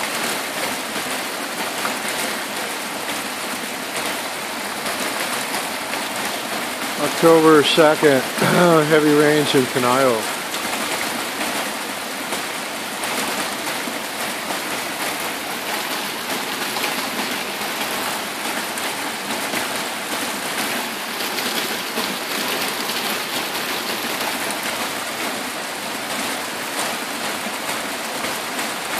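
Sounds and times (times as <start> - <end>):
heavy rain on metal roof: 0.0 - 28.9
water pouring off roof: 0.0 - 28.9.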